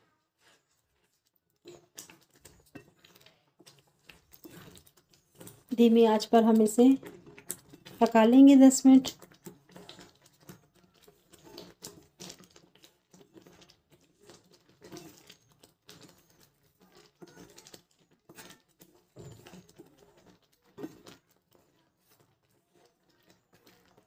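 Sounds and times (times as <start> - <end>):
wooden spatula scraping a pan: 0.0 - 24.0.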